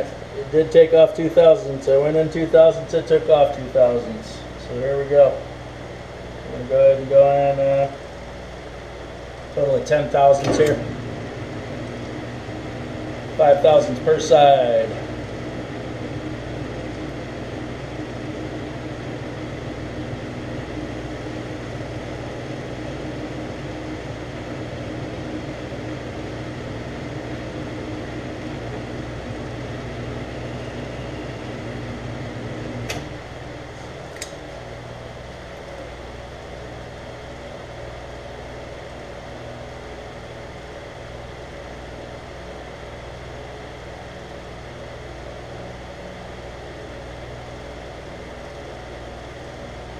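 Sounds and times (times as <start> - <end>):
metal lathe running: 0.0 - 49.9.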